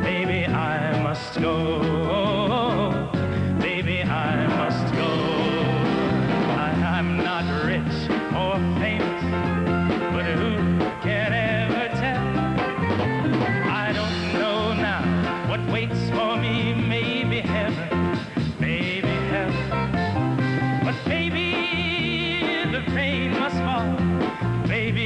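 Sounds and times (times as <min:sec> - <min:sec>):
band playing folk-pop ballad: 0:00.0 - 0:25.0.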